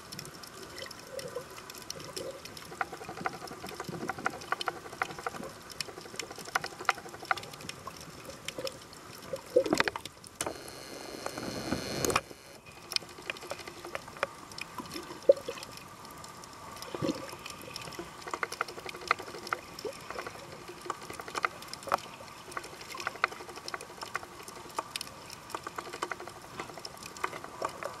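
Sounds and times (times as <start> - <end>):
underwater clicks and crackles: 0.0 - 28.0
underwater water noise: 0.0 - 28.0.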